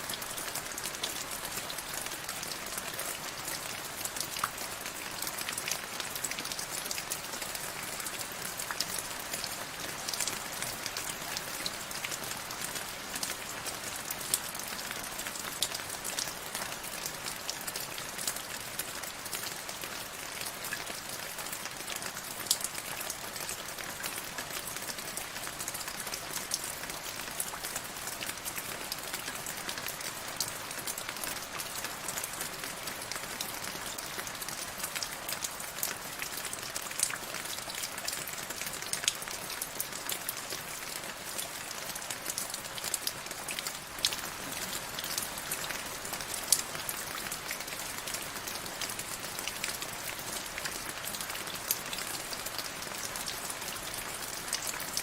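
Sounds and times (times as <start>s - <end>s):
rain drops on a hard surface: 0.0s - 55.0s.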